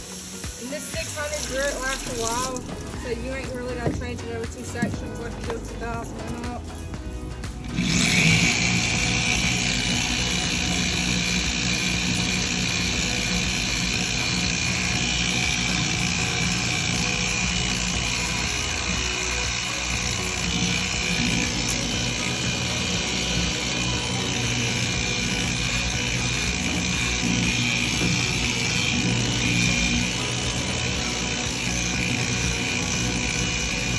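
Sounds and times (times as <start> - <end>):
electric power tool whining: 0.0 - 33.9.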